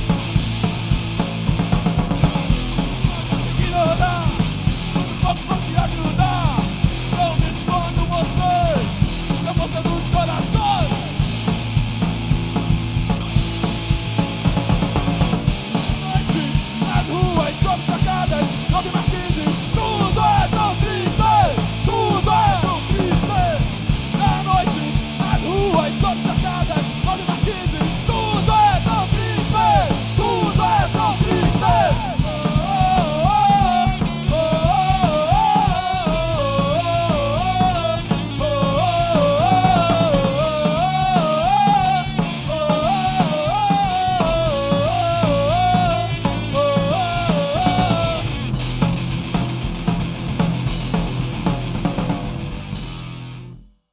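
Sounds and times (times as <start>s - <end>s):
distorted electric guitars: 0.0s - 53.7s
drum kit: 0.0s - 53.7s
bass guitar: 0.0s - 53.9s.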